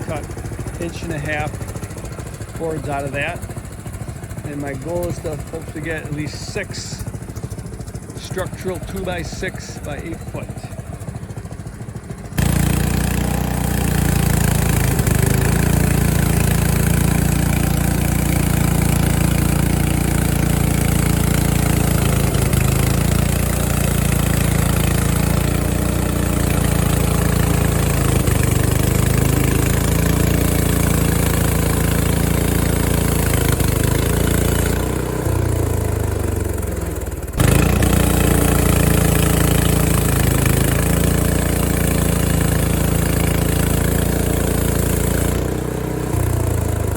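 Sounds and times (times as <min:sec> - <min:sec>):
sawmill engine running: 0:00.0 - 0:46.9.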